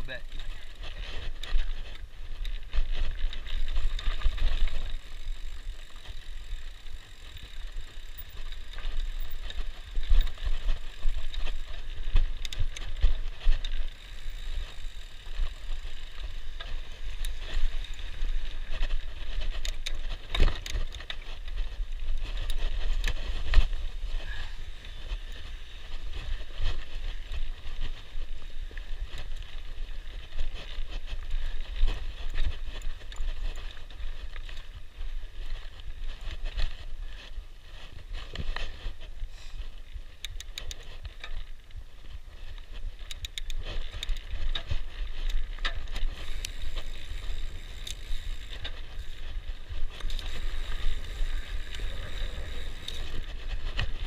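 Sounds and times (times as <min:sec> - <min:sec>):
tyres rolling over dirt and rocks: 0:00.0 - 0:37.3, 0:43.6 - 0:54.0
bike rattling and knocking: 0:00.0 - 0:54.0
wind rumbling on microphone: 0:00.0 - 0:54.0.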